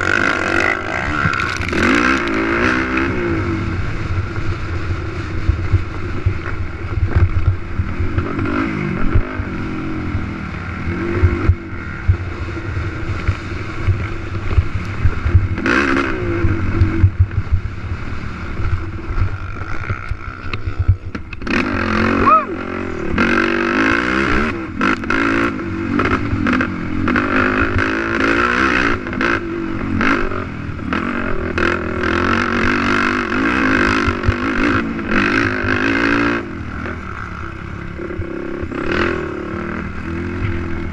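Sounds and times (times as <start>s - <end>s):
quad engine revving: 0.0s - 4.1s, 8.0s - 14.8s, 15.5s - 17.1s, 19.3s - 40.9s.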